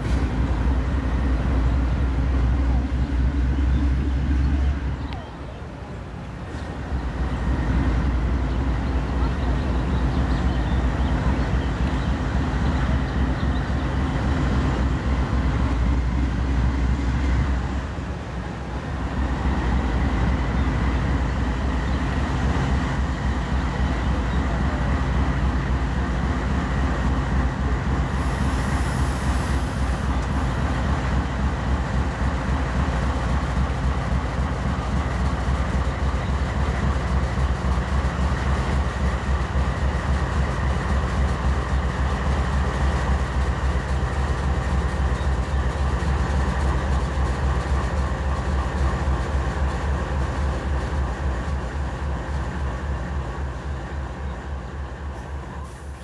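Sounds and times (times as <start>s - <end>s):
diesel locomotive engine drone: 0.0s - 56.0s
train rolling noise: 0.0s - 56.0s.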